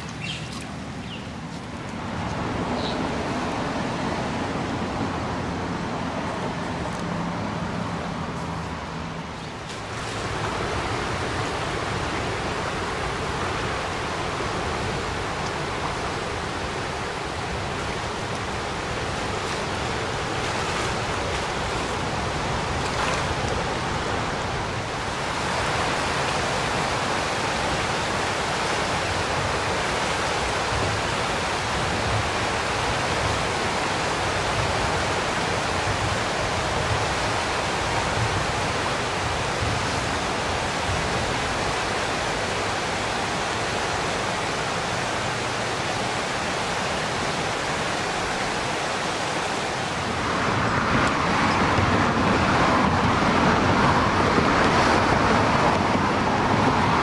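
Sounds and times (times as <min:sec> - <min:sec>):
fast floodwater rushing: 0:00.0 - 0:57.0.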